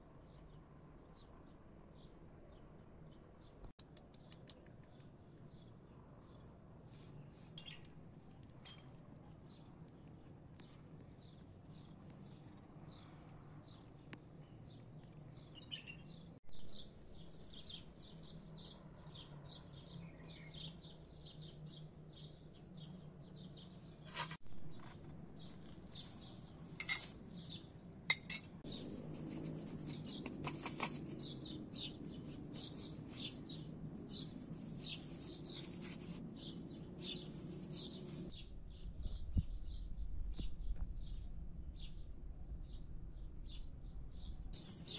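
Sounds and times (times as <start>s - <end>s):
small birds chirping: 0.1s - 44.9s.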